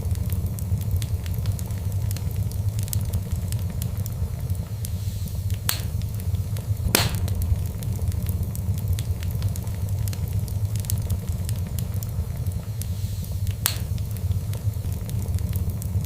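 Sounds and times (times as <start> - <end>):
fire crackling in fireplace: 0.0 - 16.0
fire pops: 0.0 - 16.0.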